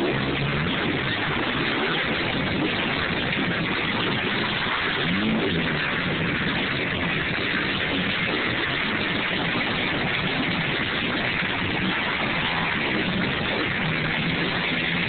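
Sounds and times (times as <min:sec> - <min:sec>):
dense wash of noise: 0:00.0 - 0:15.0
racing engines buzzing and revving: 0:00.0 - 0:15.0.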